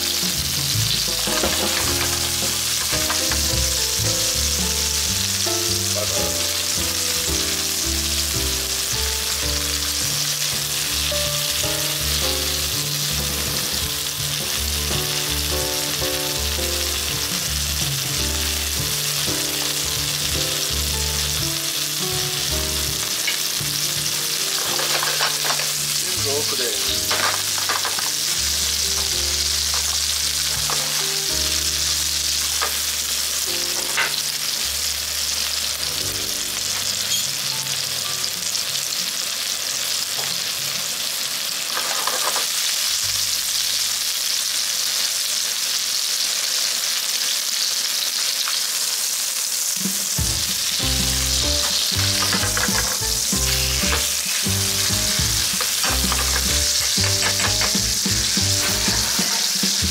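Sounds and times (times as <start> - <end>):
food sizzling in frying pan: 0.0 - 59.9.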